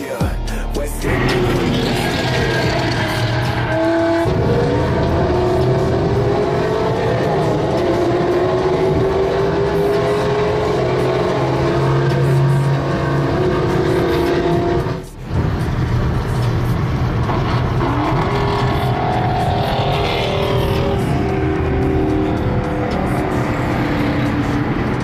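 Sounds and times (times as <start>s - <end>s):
car engines accelerating hard: 1.0s - 25.0s.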